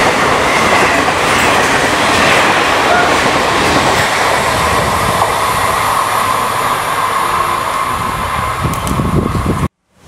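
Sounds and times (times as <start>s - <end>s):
train coaches rushing past: 0.0s - 9.7s.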